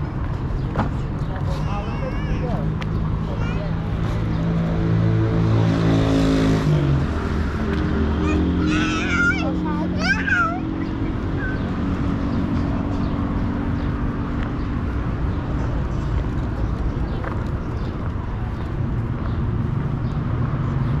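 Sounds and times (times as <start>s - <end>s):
road traffic rumble: 0.0s - 21.0s
vehicle engine hum: 0.0s - 21.0s.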